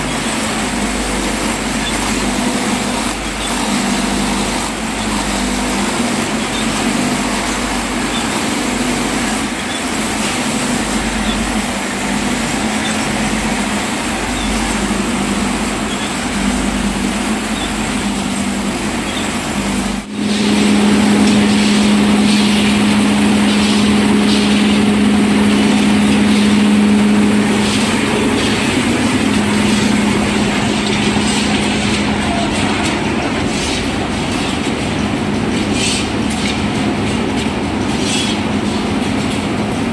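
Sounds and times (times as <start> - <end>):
machine drone: 0.0 - 39.9
machines clattering and rattling: 0.0 - 39.9.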